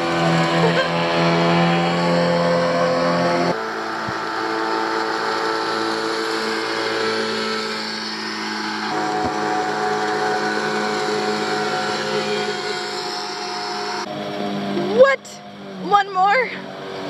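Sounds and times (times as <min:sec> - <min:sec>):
motorboat engine buzzing: 0:00.0 - 0:17.0.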